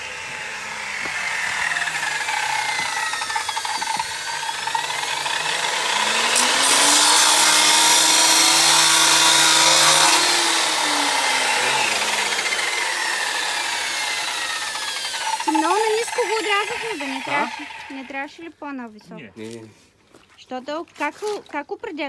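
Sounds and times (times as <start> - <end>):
power tool cutting plastic: 0.0 - 18.4.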